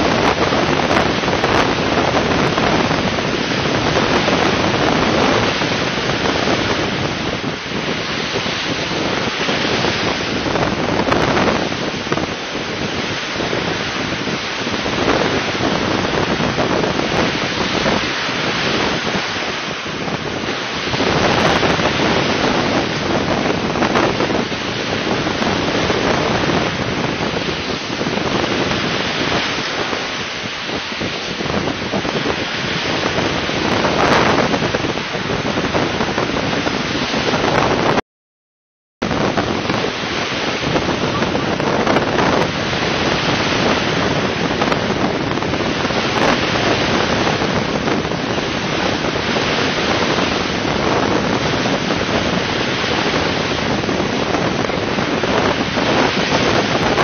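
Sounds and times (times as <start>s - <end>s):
surf breaking on shingle beach: 0.0s - 38.0s, 39.0s - 57.0s
wind buffeting microphone: 0.0s - 38.0s, 39.0s - 57.0s.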